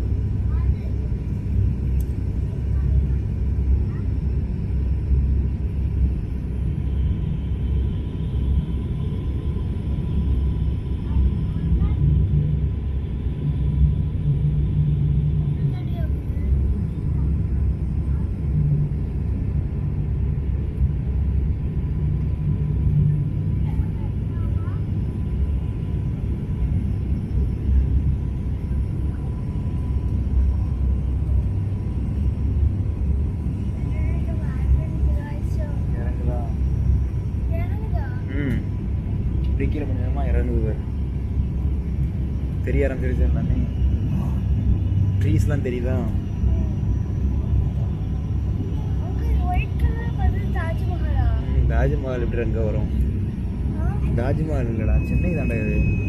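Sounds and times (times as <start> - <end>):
airliner engines and airflow rumble: 0.0 - 56.0
faint steady whine: 0.0 - 56.0.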